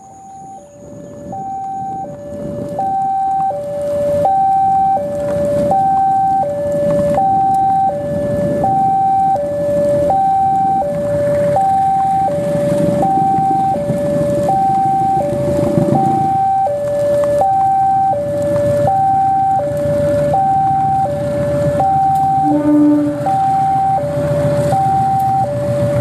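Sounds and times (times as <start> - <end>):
diesel locomotive rumbling: 0.0 - 26.0
electronic two-tone alarm: 0.0 - 26.0.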